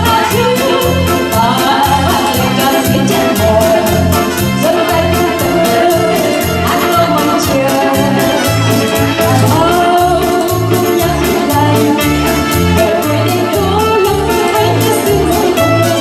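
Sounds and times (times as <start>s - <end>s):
electronic keyboard with beat: 0.0s - 16.0s
woman singing into a microphone: 0.0s - 16.0s.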